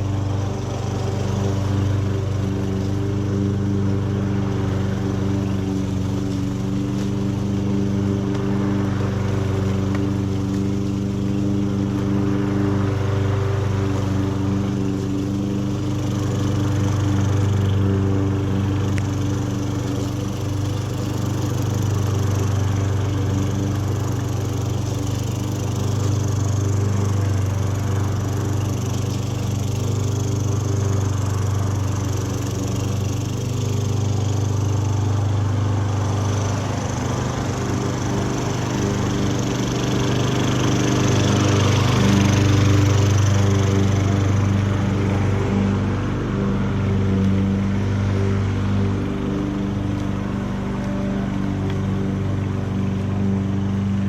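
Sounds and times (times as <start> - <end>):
push mower engine running: 0.0 - 54.0.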